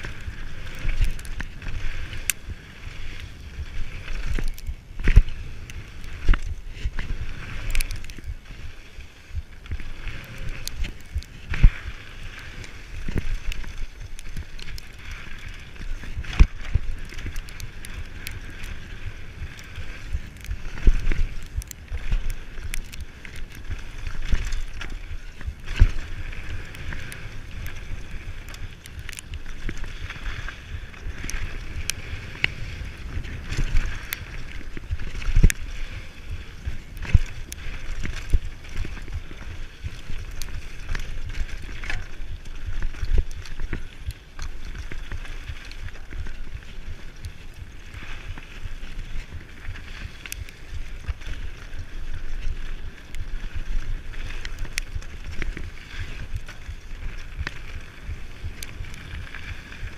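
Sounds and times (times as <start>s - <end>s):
bike tyres rumbling on gravel: 0.0s - 59.9s
wind on microphone: 0.0s - 59.9s
wheels knocking on rocks: 9.3s - 59.9s.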